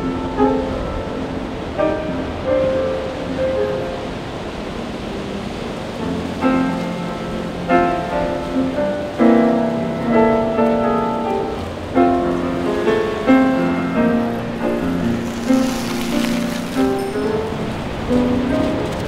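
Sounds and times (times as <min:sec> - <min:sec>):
ocean surf: 0:00.0 - 0:19.0
solo grand piano music: 0:00.0 - 0:19.0.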